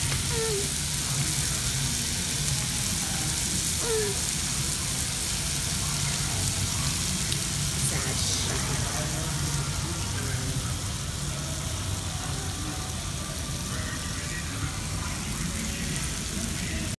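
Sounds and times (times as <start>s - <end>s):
fajitas sizzling on a skillet: 0.0s - 17.0s.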